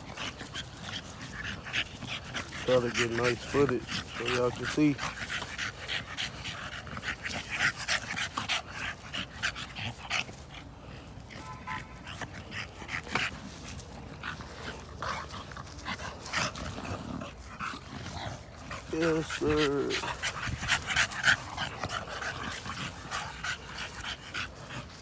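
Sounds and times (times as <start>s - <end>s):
dogs scuffling and breathing: 0.0s - 25.0s.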